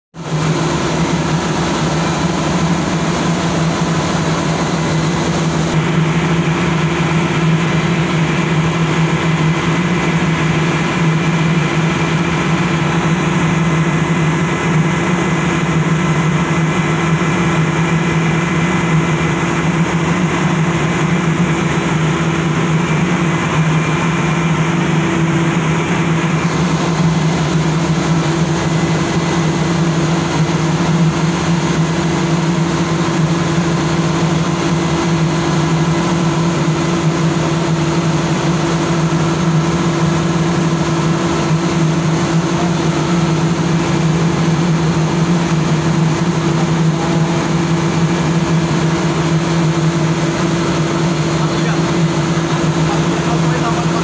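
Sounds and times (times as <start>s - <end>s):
engine room machinery drone: 0.1s - 54.0s.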